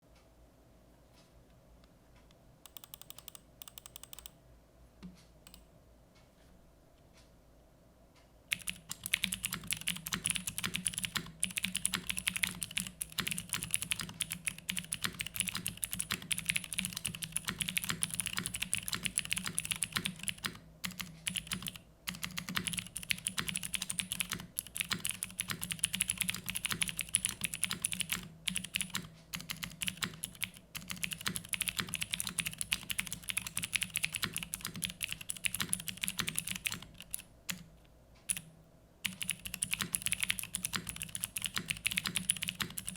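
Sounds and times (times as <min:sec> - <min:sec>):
mechanical keyboard typing: 0:02.7 - 0:04.4, 0:08.5 - 0:42.9.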